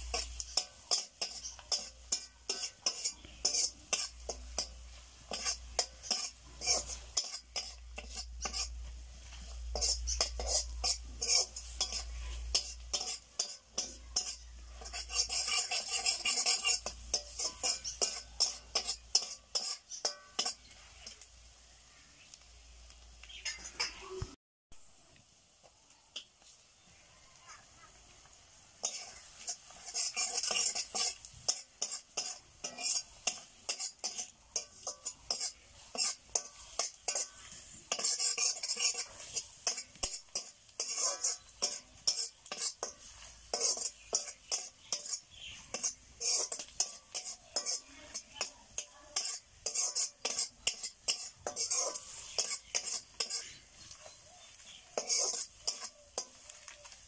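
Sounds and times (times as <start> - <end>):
spatula scraping and stirring: 0.0 - 21.5, 22.2 - 24.3, 27.6 - 57.0
light sizzle of frying: 0.0 - 57.0.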